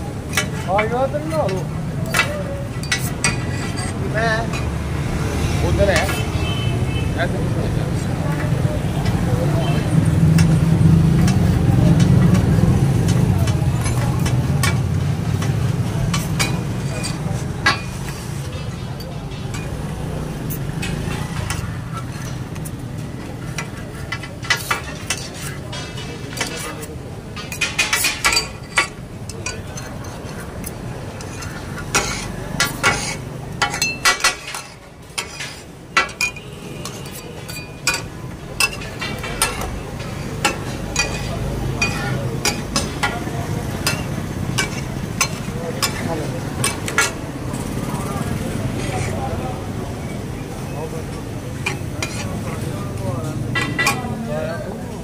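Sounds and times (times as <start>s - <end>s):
metal spatulas clacking on griddle: 0.2s - 4.7s, 5.9s - 6.2s, 10.2s - 47.2s, 51.6s - 52.9s, 53.5s - 54.2s.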